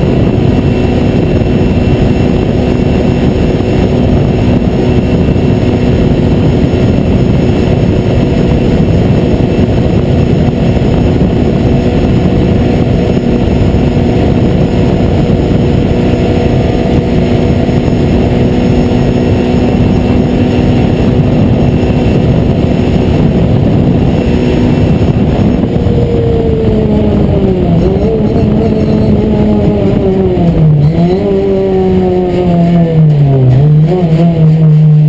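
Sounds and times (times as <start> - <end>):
race car engine at full throttle: 0.0 - 35.0
wind and road noise: 0.0 - 35.0.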